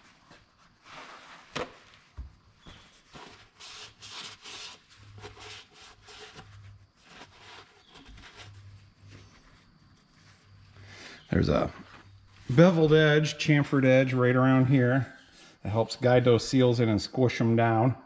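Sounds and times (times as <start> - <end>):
paper towel rubbing and rustling: 0.0 - 14.9.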